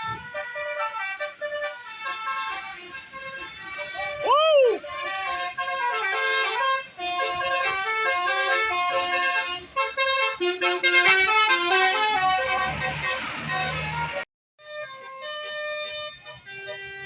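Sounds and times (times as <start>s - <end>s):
multi-tone air horn playing a tune: 0.0s - 17.0s.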